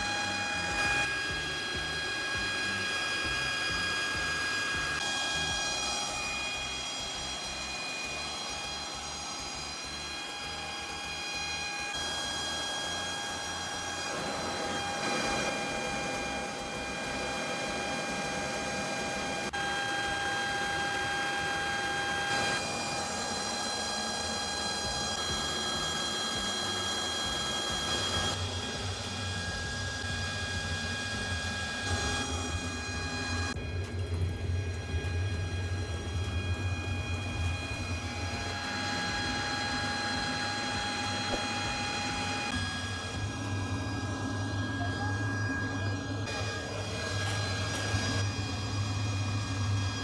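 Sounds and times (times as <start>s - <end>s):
blower high whine: 0.0s - 50.0s
furnace burner roaring: 0.0s - 50.0s.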